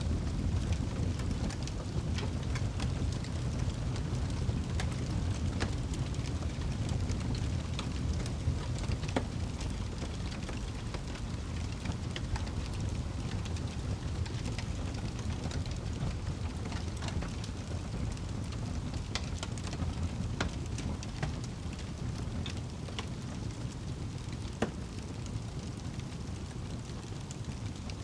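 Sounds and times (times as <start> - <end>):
low rumble of flames: 0.0 - 28.0
wood fire crackles and pops: 0.0 - 28.0.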